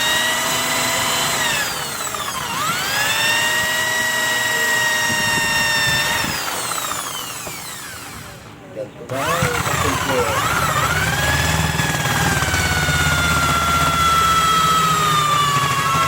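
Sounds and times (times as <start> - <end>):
electric drill motor whine: 0.0 - 16.0.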